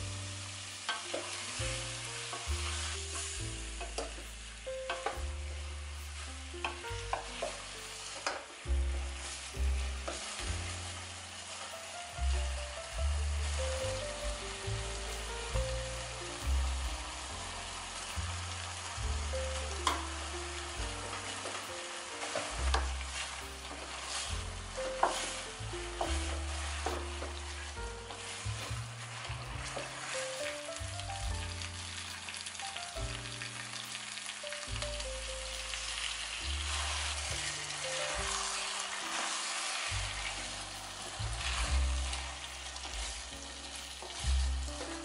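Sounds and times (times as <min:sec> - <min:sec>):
chicken sizzling in a pot: 0:00.0 - 0:45.0
soft background music: 0:00.0 - 0:45.0.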